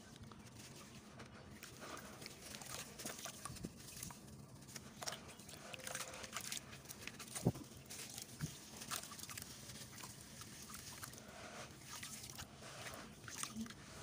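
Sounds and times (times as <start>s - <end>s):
water sloshing: 0.1s - 14.0s.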